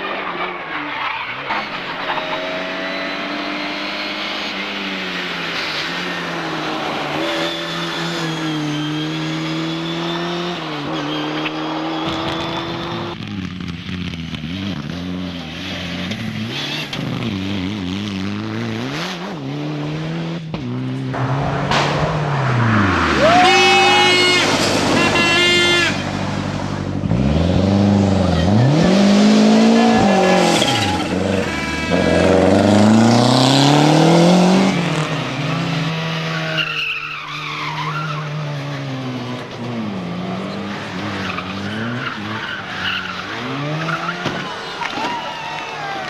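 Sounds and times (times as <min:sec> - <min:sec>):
race car engine revving: 0:00.0 - 0:36.8, 0:37.4 - 0:45.0.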